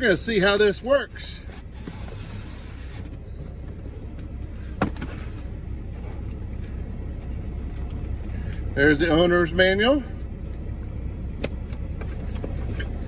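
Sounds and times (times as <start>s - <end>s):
low drone in truck cab: 0.0s - 13.0s.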